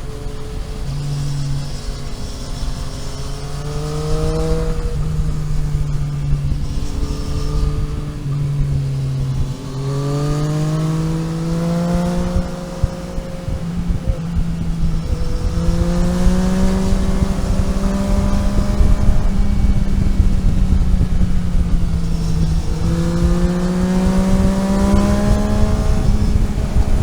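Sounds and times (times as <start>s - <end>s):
vehicle engine revving: 0.0s - 27.0s
wind and road rumble: 0.0s - 27.0s.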